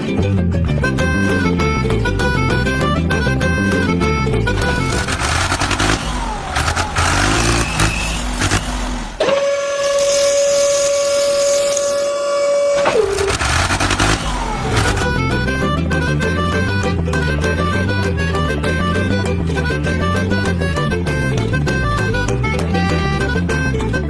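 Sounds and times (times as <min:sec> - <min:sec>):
vehicle motor whine: 0:00.8 - 0:24.0.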